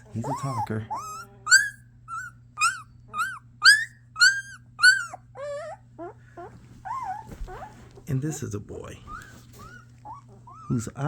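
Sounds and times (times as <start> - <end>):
puppy whining: 0.0 - 11.0.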